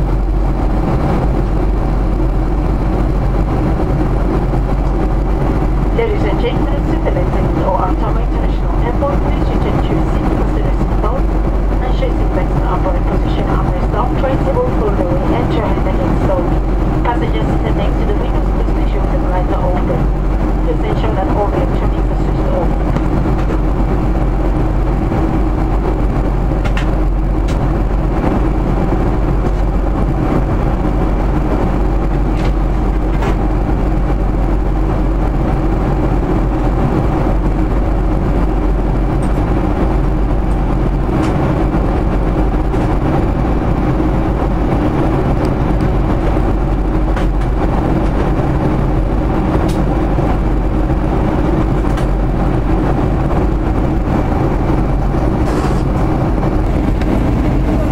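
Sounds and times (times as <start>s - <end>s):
airliner cabin engine roar: 0.0s - 57.9s
faint steady whine: 0.0s - 57.9s.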